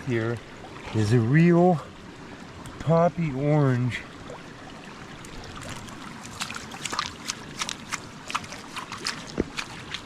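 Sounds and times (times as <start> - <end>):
creek water running: 0.0 - 10.0
water splashes and drips: 0.0 - 10.0.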